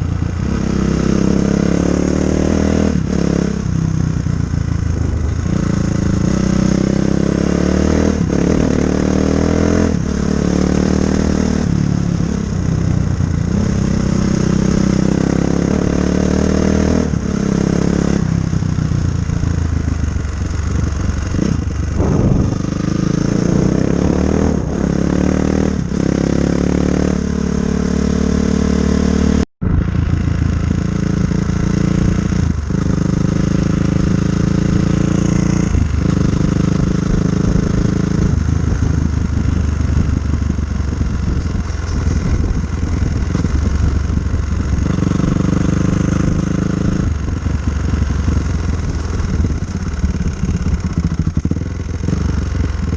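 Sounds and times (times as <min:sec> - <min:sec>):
dirt bike engine revving: 0:00.0 - 0:03.7, 0:04.4 - 0:18.5, 0:19.3 - 0:52.9.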